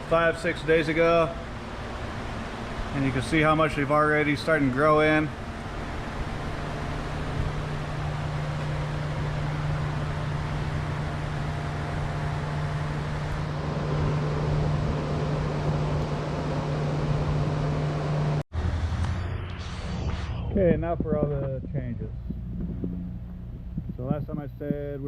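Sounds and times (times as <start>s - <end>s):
ventilation fans humming: 0.0s - 19.2s, 20.0s - 25.0s.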